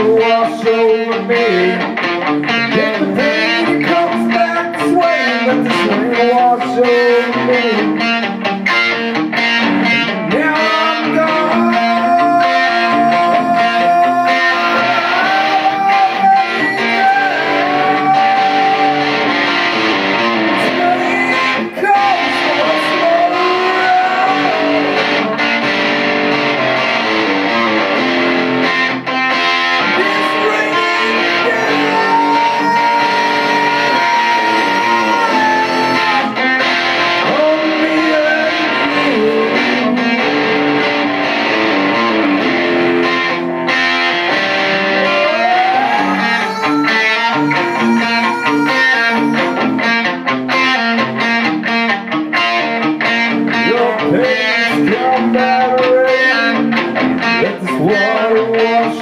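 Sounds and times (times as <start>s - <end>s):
distorted electric guitar lead: 0.0s - 59.0s
rock band playing: 0.0s - 59.0s.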